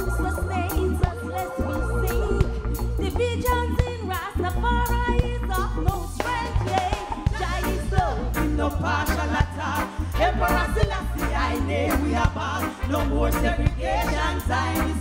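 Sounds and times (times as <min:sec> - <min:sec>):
loud bass line: 0:00.0 - 0:15.0
reggae band playing: 0:00.0 - 0:15.0
woman singing: 0:00.0 - 0:15.0.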